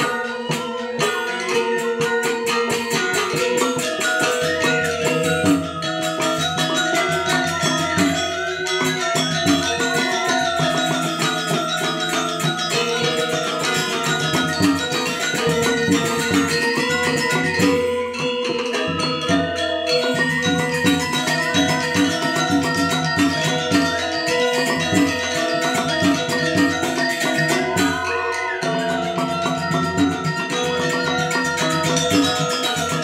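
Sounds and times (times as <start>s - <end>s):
gamelan playing: 0.0s - 33.0s.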